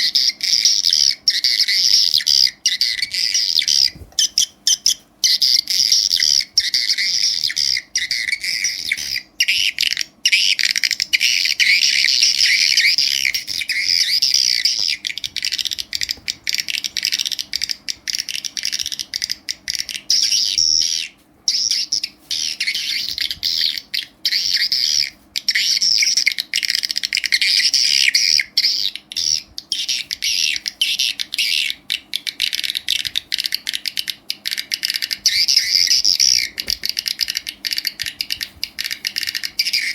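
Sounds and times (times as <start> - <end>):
swiftlet calls through amplifier: 0.0 - 33.6, 34.5 - 39.9.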